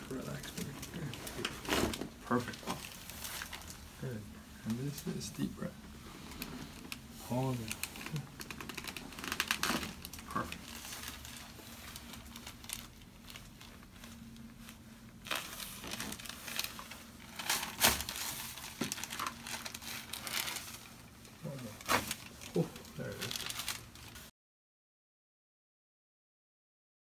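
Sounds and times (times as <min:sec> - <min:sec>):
rustling and crinkling: 0:00.0 - 0:24.3.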